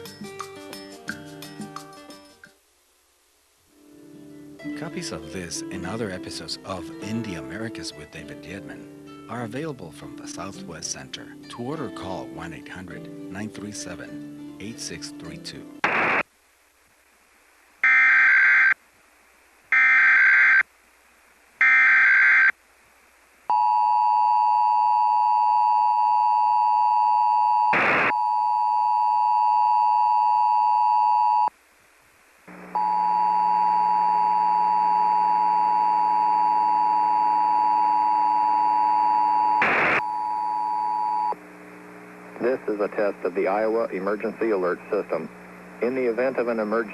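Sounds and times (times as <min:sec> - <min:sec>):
low hum and hiss: 0:00.0 - 0:18.0, 0:18.7 - 0:19.9, 0:20.6 - 0:21.8, 0:22.5 - 0:26.1, 0:27.8 - 0:46.9.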